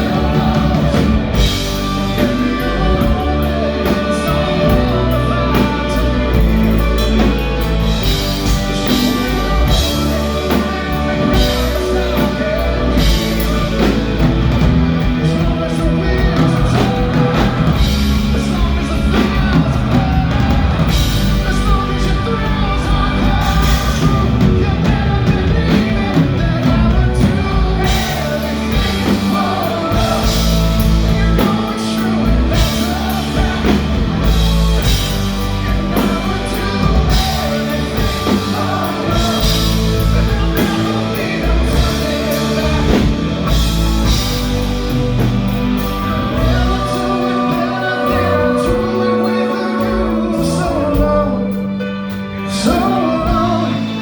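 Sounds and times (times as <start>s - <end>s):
bass guitar: 0.0s - 54.0s
drum kit: 0.0s - 54.0s
person singing lead: 0.0s - 54.0s.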